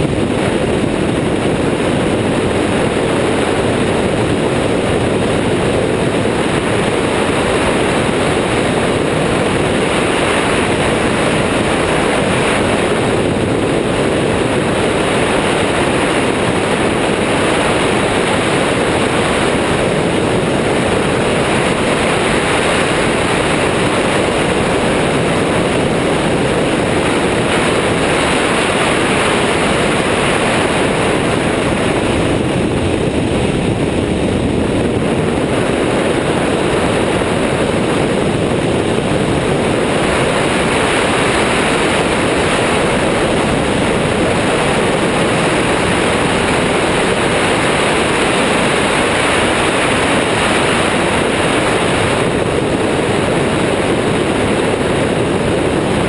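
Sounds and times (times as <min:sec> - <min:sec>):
ultralight engine and propeller drone: 0:00.0 - 0:56.0
wind rushing on microphone: 0:00.0 - 0:56.0.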